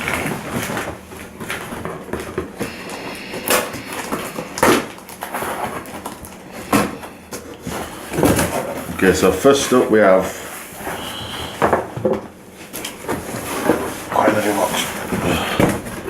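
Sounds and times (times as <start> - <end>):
cardboard box packaging rustling: 0.0 - 11.9, 12.6 - 16.0.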